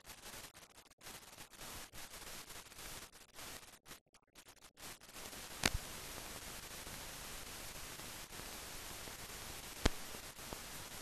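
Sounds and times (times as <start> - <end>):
steady film hiss: 0.0 - 11.0.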